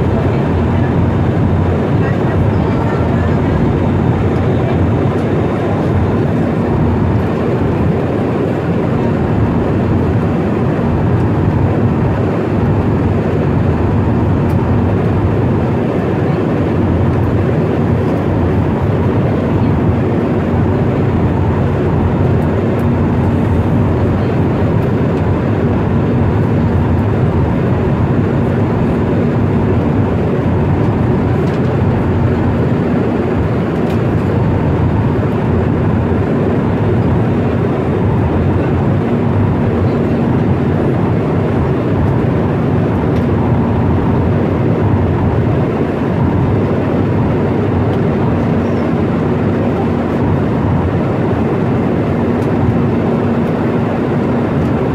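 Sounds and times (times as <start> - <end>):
jet engine roar inside cabin: 0.0 - 54.9.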